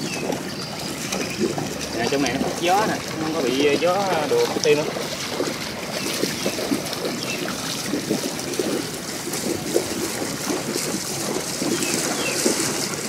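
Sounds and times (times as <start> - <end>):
shallow water sloshing: 0.0 - 13.0.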